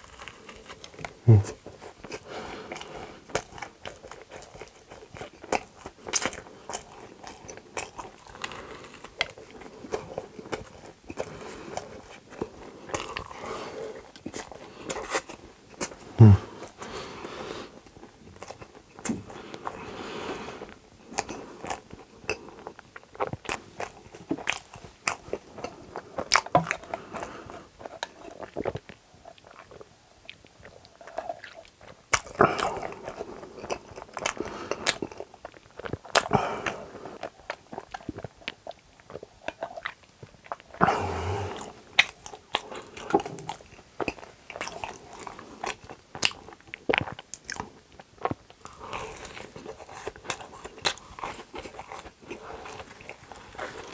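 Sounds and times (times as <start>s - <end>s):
man chewing wetly: 0.0s - 53.9s.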